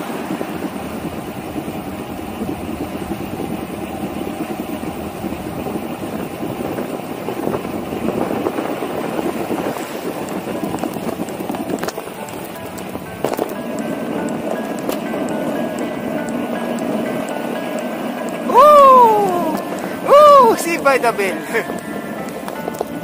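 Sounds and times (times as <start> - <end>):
bicycle riding rushing noise: 0.0 - 23.0.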